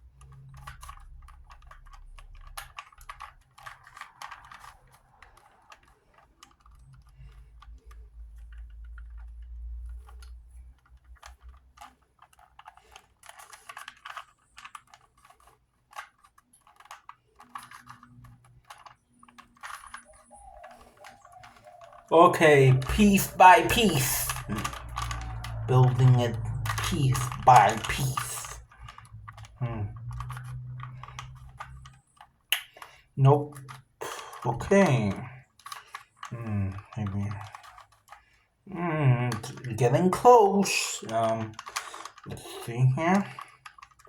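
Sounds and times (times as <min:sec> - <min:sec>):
puzzle cube layers clicking: 0:00.0 - 0:44.0.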